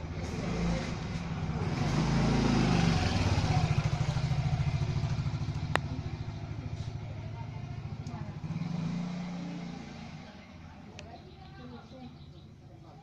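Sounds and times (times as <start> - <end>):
motor engine running: 0.0 - 13.0.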